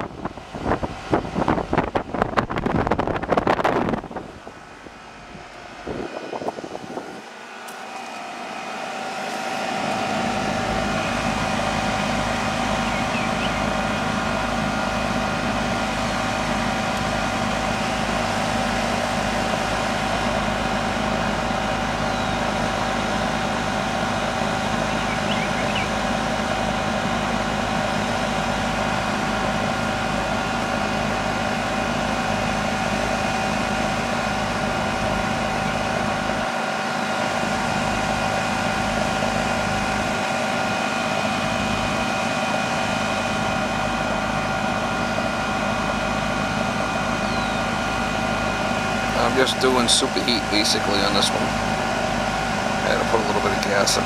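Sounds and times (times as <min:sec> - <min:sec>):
air conditioner unit droning: 0:00.0 - 0:54.0.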